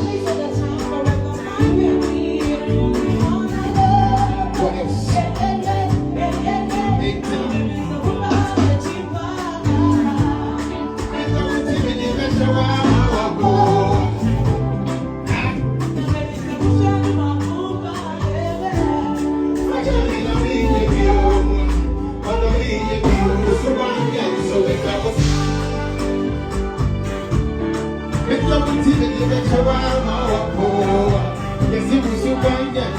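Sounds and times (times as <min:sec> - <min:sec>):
person singing: 0:00.0 - 0:27.4, 0:28.0 - 0:32.9
band playing: 0:00.0 - 0:32.9.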